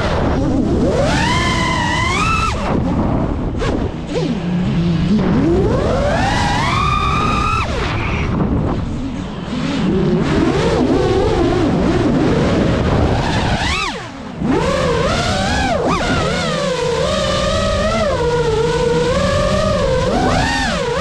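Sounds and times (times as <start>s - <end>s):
low rushing noise: 0.0s - 19.9s
quadcopter motors whining: 0.0s - 21.0s.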